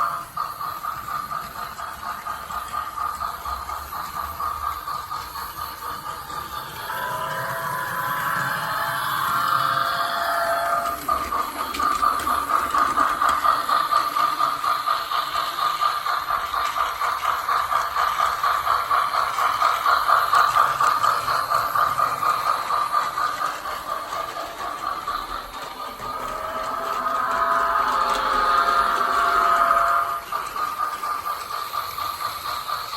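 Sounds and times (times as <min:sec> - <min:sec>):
toy train steam chuffing: 0:00.0 - 0:32.9.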